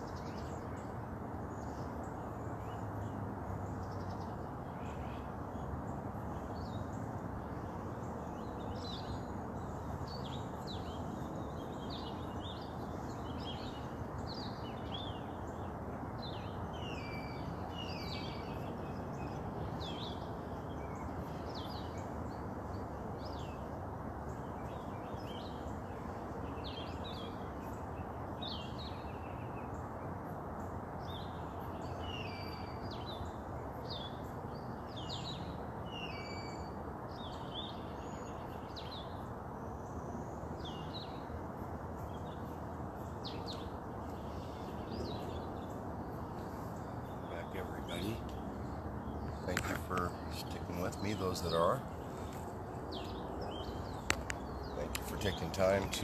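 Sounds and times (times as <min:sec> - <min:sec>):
distant highway traffic roar: 0:00.0 - 0:56.0
birds chirping and singing: 0:03.8 - 0:56.0.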